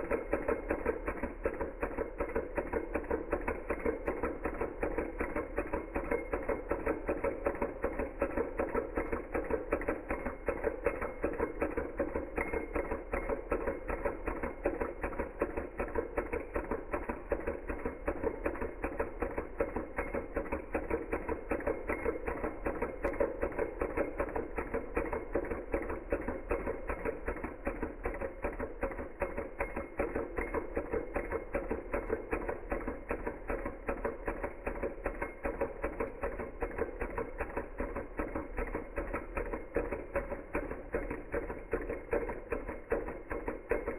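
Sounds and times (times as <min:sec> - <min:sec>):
small engine mechanical clicking: 0:00.0 - 0:43.9.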